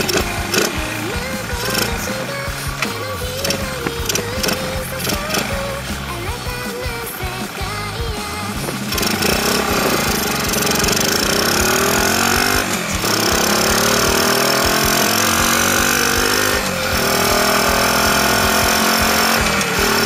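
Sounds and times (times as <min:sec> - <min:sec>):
motorbike engine accelerating: 0:00.0 - 0:20.0.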